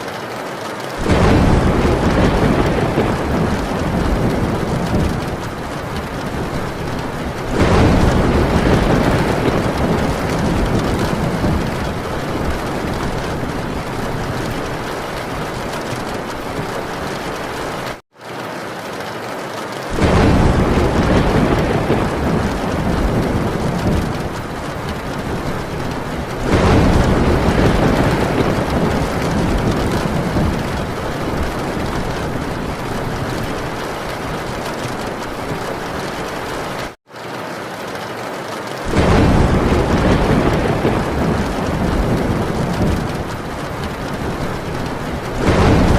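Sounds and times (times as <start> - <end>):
rain on a tin roof: 0.0 - 45.9
thunder rolling: 0.9 - 18.0, 19.9 - 37.0, 38.9 - 45.9.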